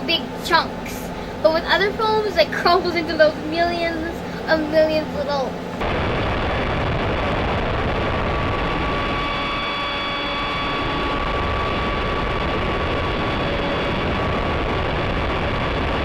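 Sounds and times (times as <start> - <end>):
electric ducted fan whine: 0.0 - 16.0.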